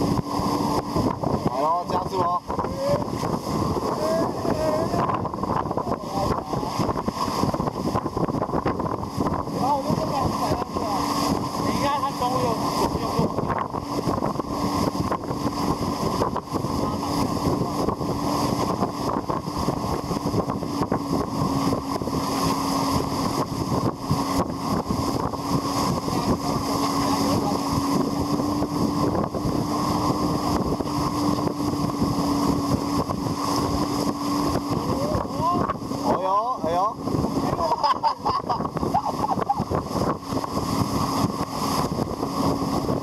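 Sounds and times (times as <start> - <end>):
motorboat engine humming: 0.0 - 43.0
rushing water: 0.0 - 43.0
wind buffeting microphone: 0.0 - 43.0.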